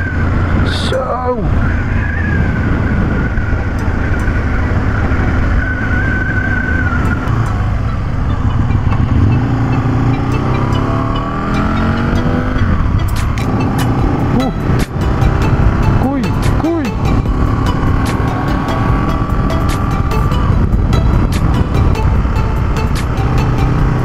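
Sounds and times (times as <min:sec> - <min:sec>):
motorcycle engine revving: 0:00.0 - 0:24.0
wind rush: 0:01.3 - 0:10.1, 0:12.2 - 0:24.0.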